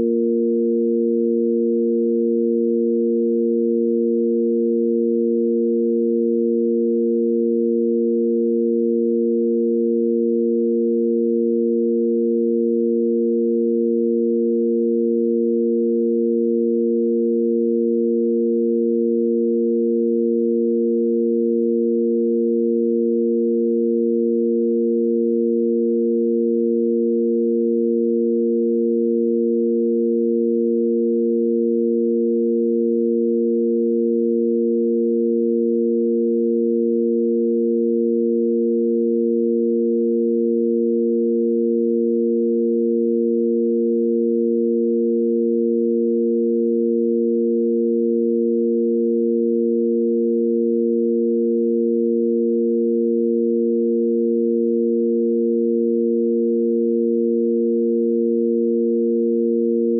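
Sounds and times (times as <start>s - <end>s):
sine tone drone: 0.0s - 59.9s.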